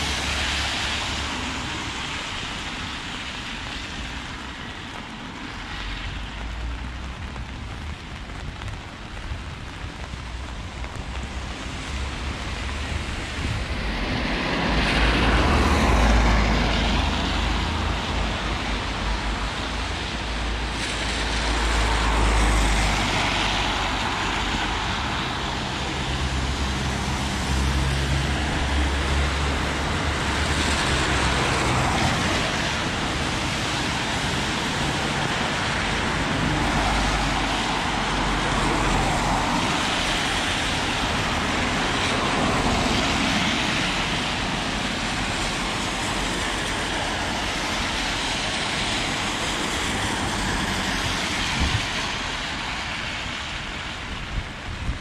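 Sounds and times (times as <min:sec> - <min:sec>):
steady rainfall: 0:00.0 - 0:55.0
tyres hissing on wet road: 0:00.0 - 0:55.0.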